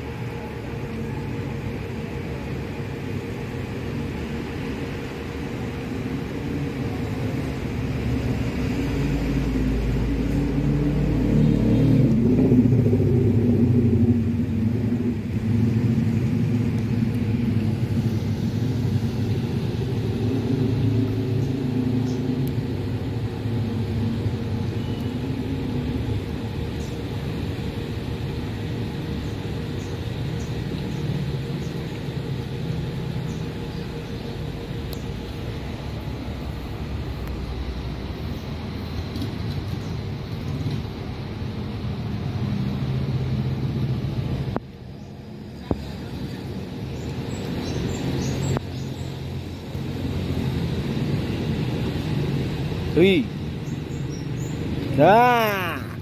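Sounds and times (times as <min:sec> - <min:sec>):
vehicle engine rumble: 0:00.0 - 0:56.0.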